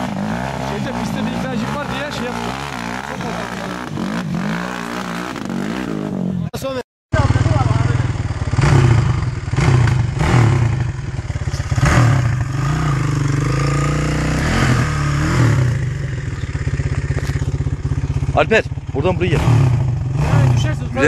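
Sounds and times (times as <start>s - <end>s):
dirt bike engine revving: 0.0s - 6.5s, 7.2s - 21.0s.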